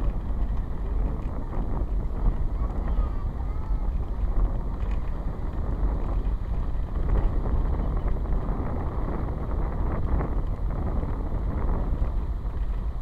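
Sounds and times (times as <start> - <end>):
road and vehicle noise: 0.0 - 13.0
wind buffeting microphone: 0.0 - 13.0.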